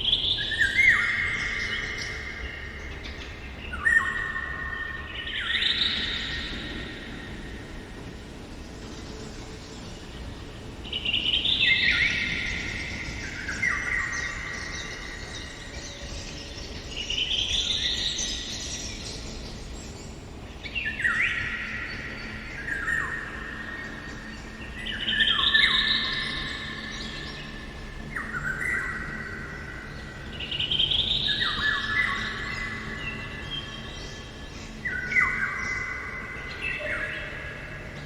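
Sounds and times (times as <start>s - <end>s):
faint background hiss: 0.0s - 38.0s
songbirds singing: 0.0s - 38.0s.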